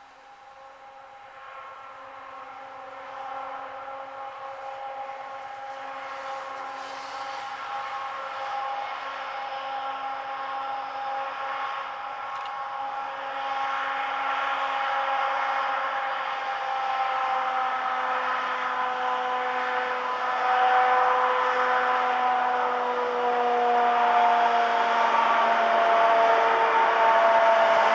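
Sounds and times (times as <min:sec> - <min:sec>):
locomotive engine whine: 0:00.0 - 0:27.9.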